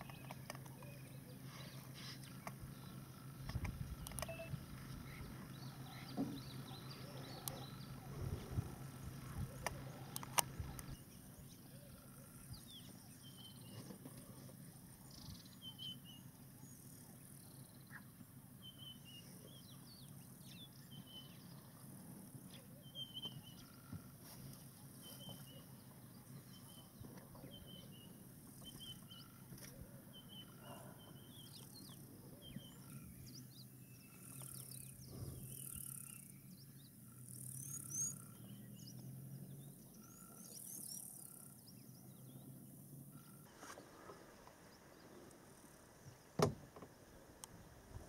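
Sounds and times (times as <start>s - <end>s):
birds chirping: 0.0s - 48.0s
low steady hum: 0.0s - 48.0s.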